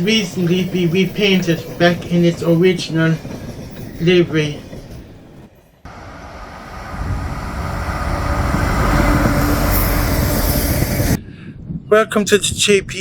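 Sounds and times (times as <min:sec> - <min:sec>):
train passing rumble: 0:00.4 - 0:11.2.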